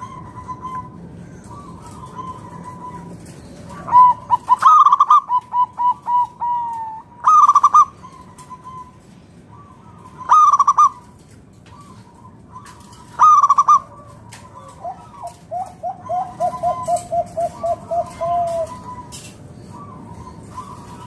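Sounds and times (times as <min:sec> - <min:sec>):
dove cooing: 0:00.0 - 0:21.0.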